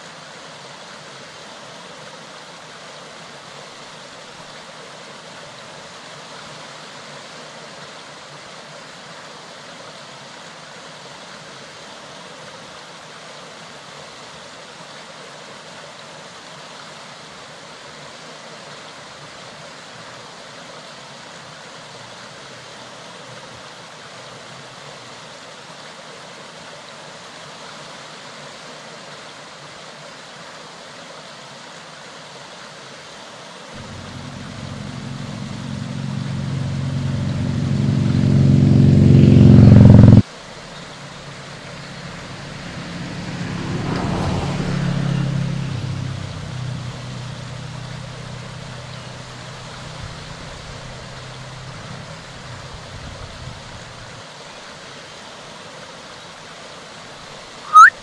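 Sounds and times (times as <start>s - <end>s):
stream water rushing: 0.0s - 39.5s, 40.1s - 58.0s.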